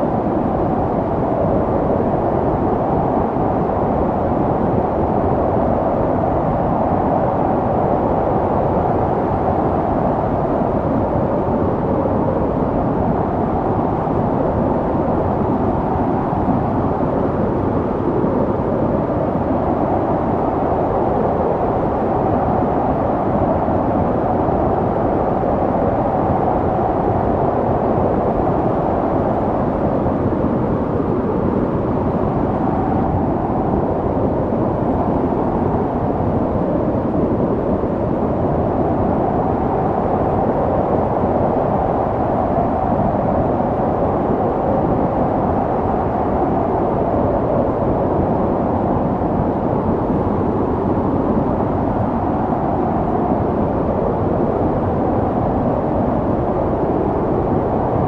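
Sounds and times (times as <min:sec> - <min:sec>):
snowstorm wind blowing: 0:00.0 - 0:58.0.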